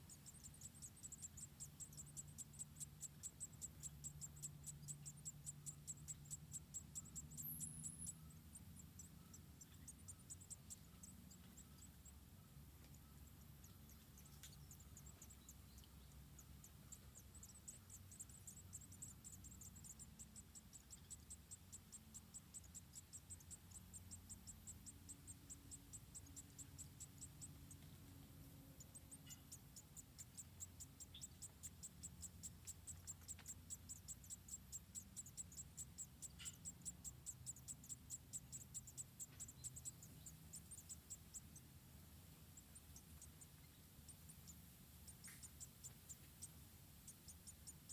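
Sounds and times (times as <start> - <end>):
insect chirping: 0.0 - 47.9.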